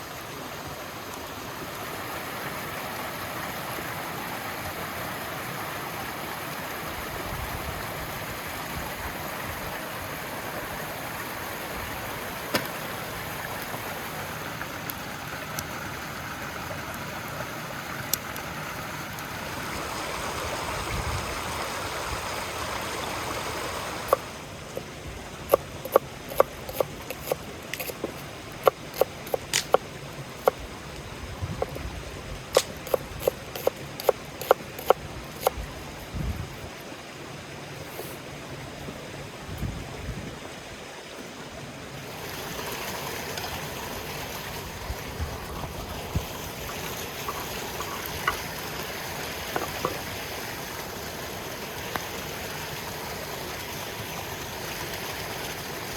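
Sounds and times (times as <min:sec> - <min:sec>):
river water flowing: 0:00.0 - 0:55.9.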